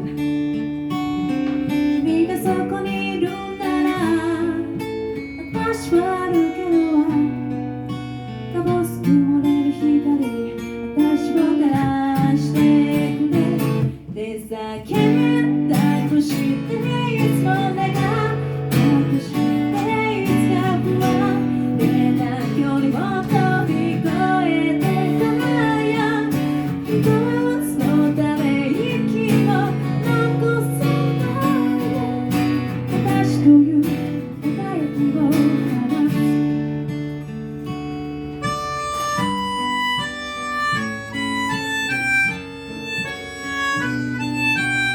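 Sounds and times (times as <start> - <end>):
acoustic guitar strumming: 0.0 - 44.9.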